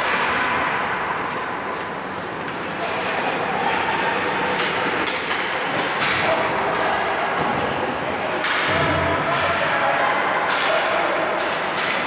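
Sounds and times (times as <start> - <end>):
hockey sticks and puck clacking: 0.0 - 12.0.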